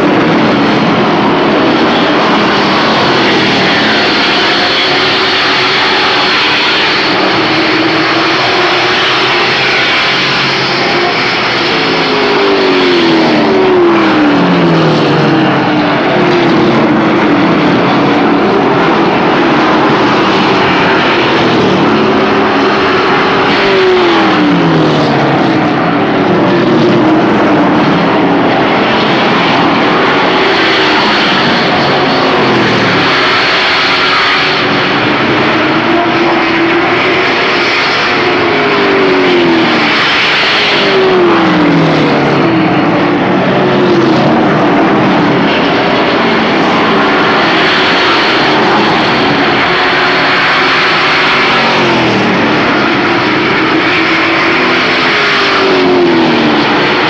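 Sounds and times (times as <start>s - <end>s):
race truck engines passing: 0.0s - 57.0s.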